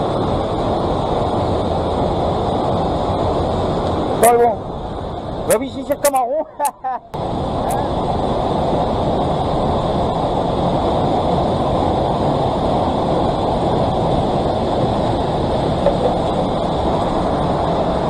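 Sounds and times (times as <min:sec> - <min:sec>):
white water roaring: 0:00.0 - 0:18.0.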